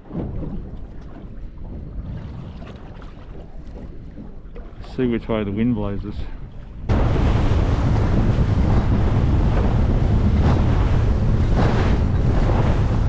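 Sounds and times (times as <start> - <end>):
water rushing past boat: 0.0 - 13.0
wind buffeting microphone: 0.0 - 13.0.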